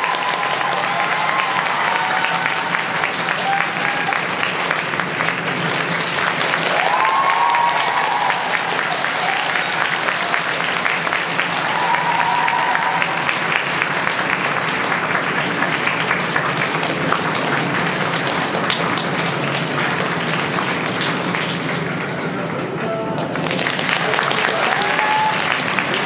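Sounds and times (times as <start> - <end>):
high cheer: 0.0 - 18.4, 23.4 - 26.0
audience applauding: 0.0 - 26.0.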